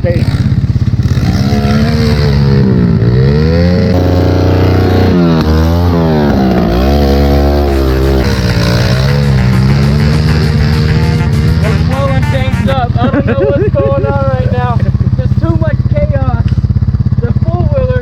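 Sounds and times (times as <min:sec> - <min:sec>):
pit bike engine revving: 0:00.0 - 0:18.0.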